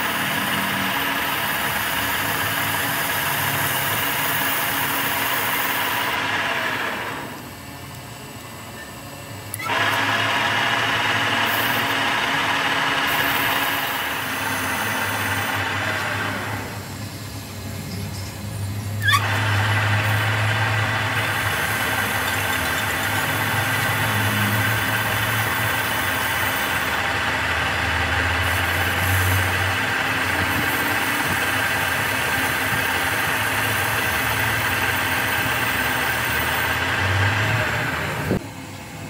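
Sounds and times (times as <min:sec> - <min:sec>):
lathe tool cutting hiss: 0:00.0 - 0:07.5, 0:09.5 - 0:38.4
lathe low hum: 0:00.0 - 0:39.0.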